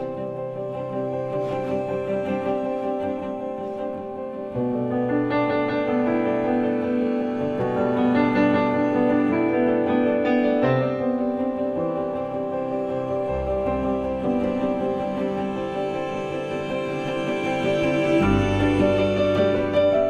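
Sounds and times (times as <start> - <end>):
slow piano background music: 0.0 - 20.0.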